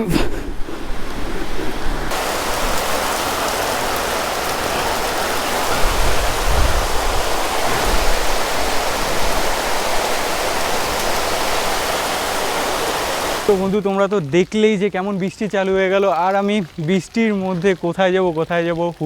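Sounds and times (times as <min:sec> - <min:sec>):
heavy rain pouring: 0:00.5 - 0:19.0.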